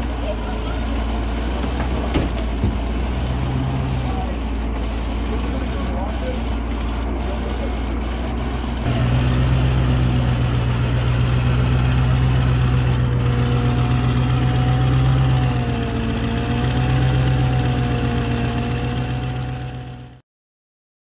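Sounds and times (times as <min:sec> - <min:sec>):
diesel engine idling: 0:00.0 - 0:20.2.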